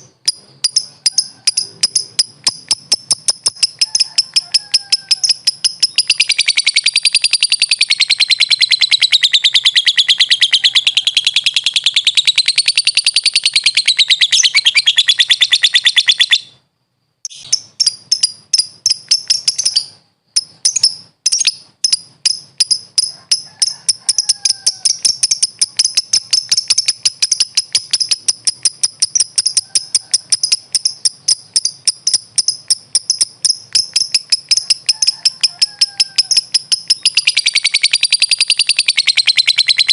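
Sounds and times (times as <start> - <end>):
bird chattering trill: 0.0 - 16.6, 17.3 - 39.9.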